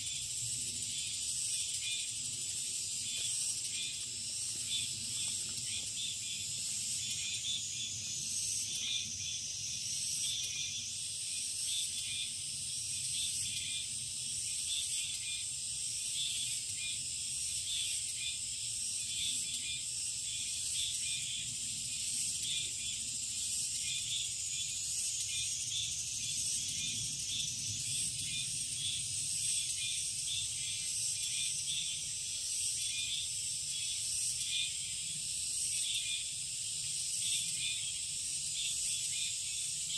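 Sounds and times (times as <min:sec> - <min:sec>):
insects buzzing and trilling: 0:00.0 - 0:39.9.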